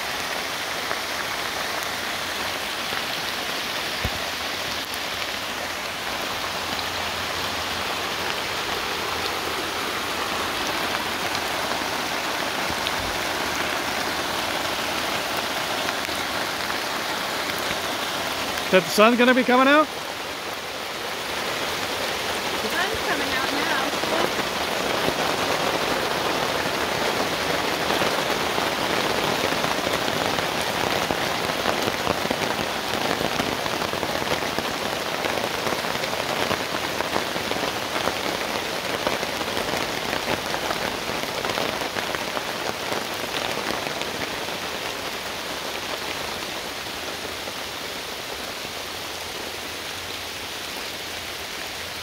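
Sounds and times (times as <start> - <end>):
rain on wet ground: 0.0 - 52.0
rain pattering on a tarp: 0.0 - 52.0.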